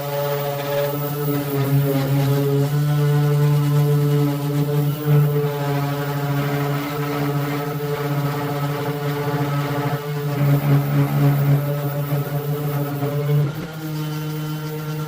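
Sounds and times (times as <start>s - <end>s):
power sander on car panel: 0.0s - 15.0s.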